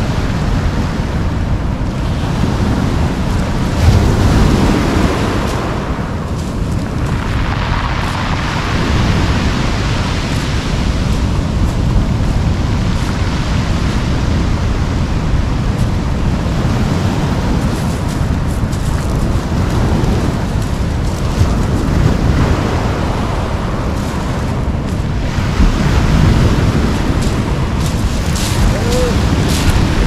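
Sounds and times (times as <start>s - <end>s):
wind buffeting microphone: 0.0s - 30.0s
surf breaking on pebble beach: 0.1s - 30.0s.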